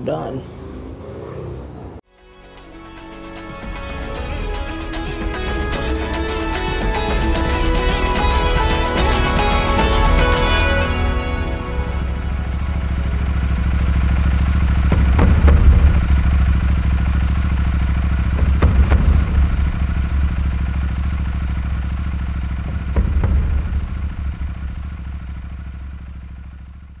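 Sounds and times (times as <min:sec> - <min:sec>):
motorcycle engine running: 0:03.6 - 0:27.0.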